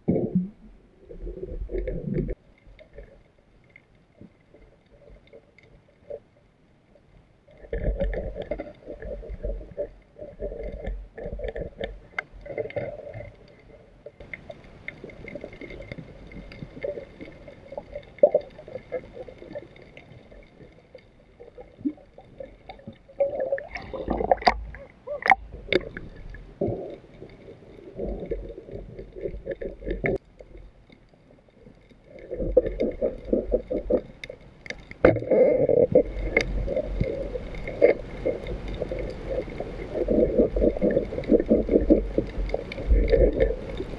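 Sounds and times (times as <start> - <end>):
muffled water sloshing: 7.2 - 43.9.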